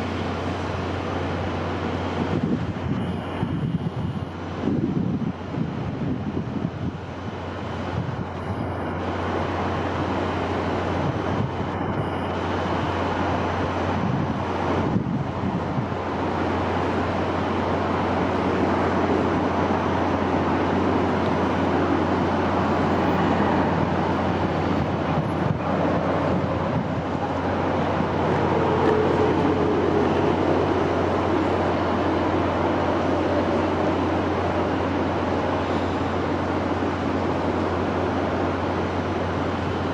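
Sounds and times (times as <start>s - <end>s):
wind blowing: 0.0s - 39.9s.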